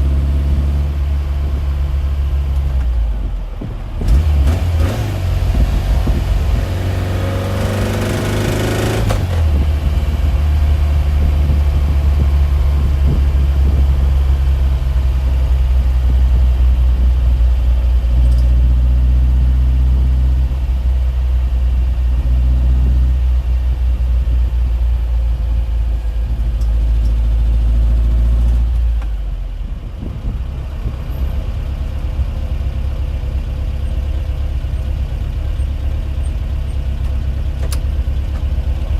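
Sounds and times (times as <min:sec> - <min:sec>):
engine droning: 0:00.0 - 0:38.9.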